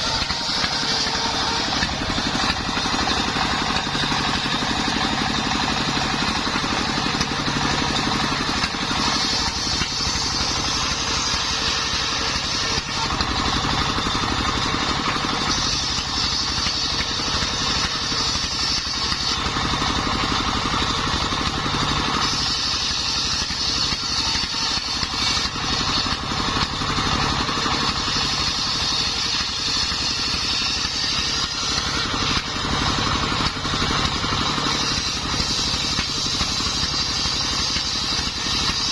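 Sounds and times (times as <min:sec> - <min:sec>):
circular sawmill engine running: 0:00.0 - 0:38.9
saw blade whine cutting timber: 0:00.0 - 0:38.9.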